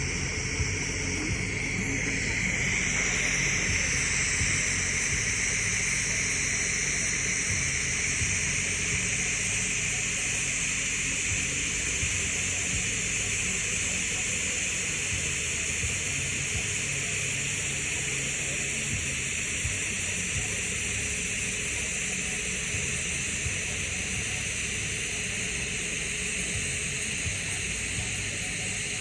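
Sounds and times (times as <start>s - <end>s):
low hum: 0.0s - 29.0s
welding arc hissing: 0.0s - 29.0s.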